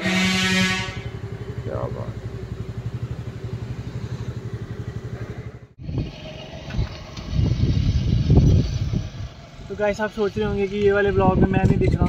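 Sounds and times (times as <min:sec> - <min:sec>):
motorbike engine running: 0:00.0 - 0:11.9
low rumbling: 0:00.0 - 0:12.0.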